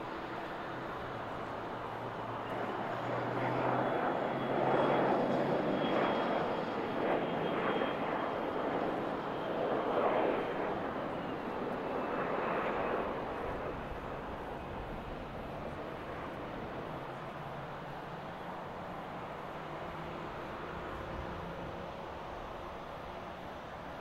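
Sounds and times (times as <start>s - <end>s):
jet engines rushing with turbine whine: 0.0s - 24.0s.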